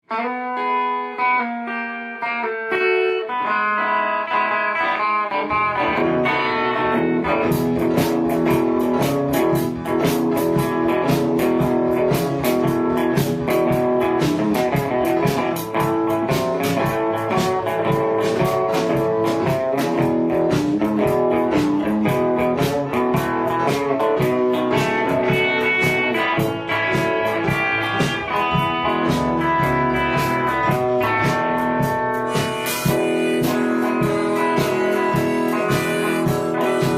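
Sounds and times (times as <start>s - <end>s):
blues guitar: 0.0s - 36.9s
bass line: 5.7s - 36.9s
drum beat of sharp strokes: 6.0s - 36.9s.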